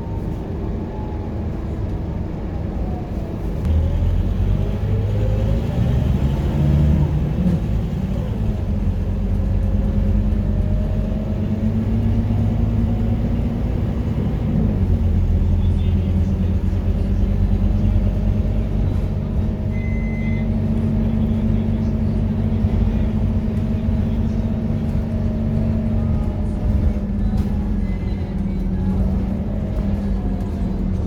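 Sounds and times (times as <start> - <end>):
bus diesel engine rumbling: 0.0 - 31.0.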